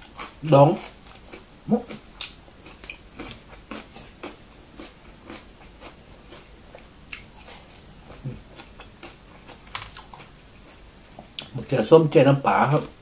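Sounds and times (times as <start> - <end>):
person chewing crunchy food: 0.0 - 11.6.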